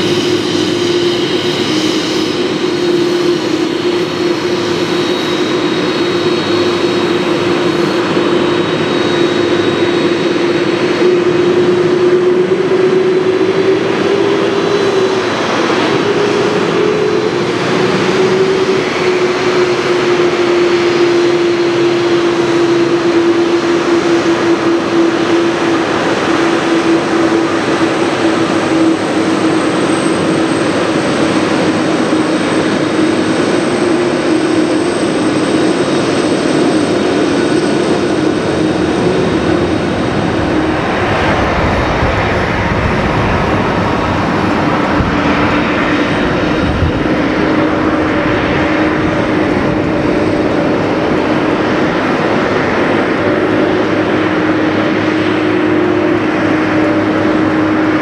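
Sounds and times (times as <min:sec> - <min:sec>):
jet engines droning: 0:00.0 - 0:58.0
low engine whine: 0:00.0 - 0:58.0.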